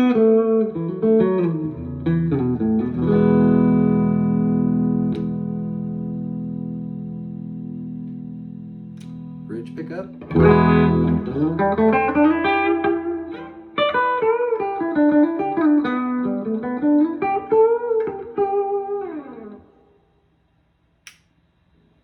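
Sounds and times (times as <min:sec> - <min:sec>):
electric guitar playing: 0:00.0 - 0:19.9.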